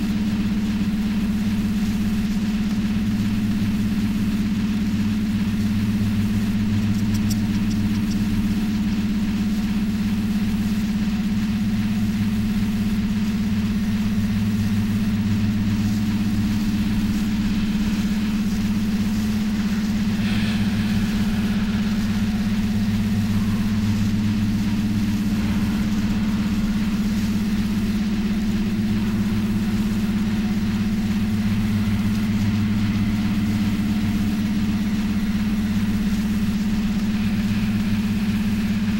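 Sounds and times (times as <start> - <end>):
low electronic drone: 0.0 - 38.9.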